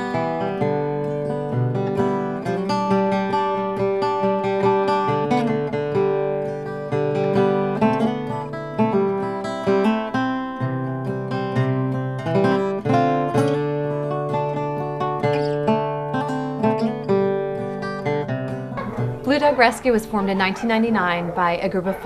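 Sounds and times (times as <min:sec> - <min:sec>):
acoustic guitar strummed and plucked: 0:00.0 - 0:22.0.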